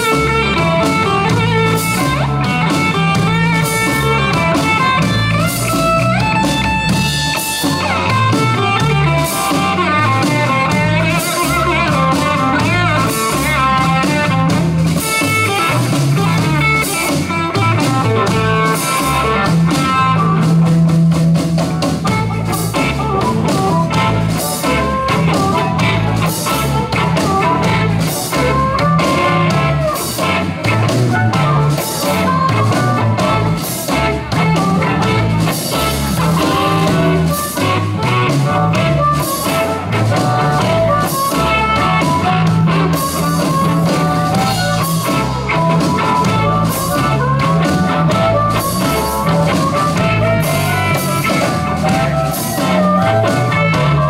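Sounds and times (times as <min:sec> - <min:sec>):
drum kit: 0:00.0 - 0:54.0
harmonica: 0:00.0 - 0:54.0
lead electric guitar: 0:00.0 - 0:54.0.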